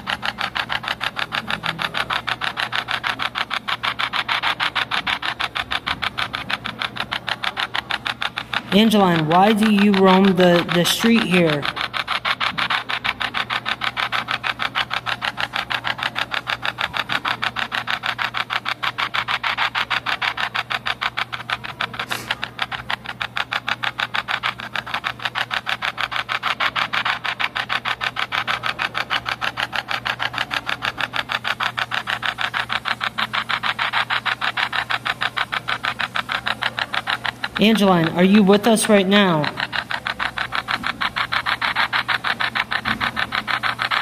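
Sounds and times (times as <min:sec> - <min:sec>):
pulsing static hiss: 0:00.0 - 0:21.3, 0:21.9 - 0:44.0
steady low hum: 0:00.0 - 0:44.0.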